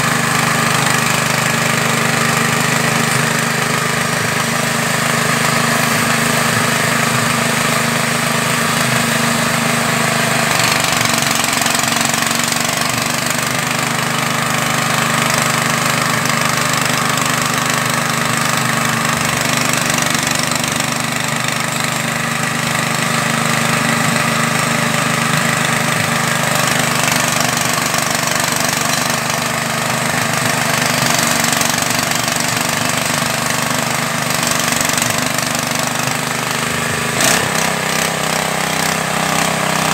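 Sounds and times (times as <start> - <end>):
pellet machine engine drone: 0.0 - 39.9.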